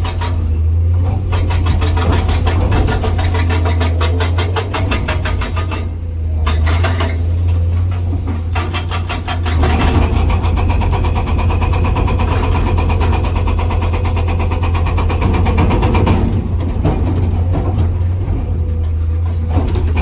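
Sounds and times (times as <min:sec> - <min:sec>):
diesel engine drone: 0:00.0 - 0:20.0
hydraulic breaker hammer pounding rock: 0:00.0 - 0:20.0.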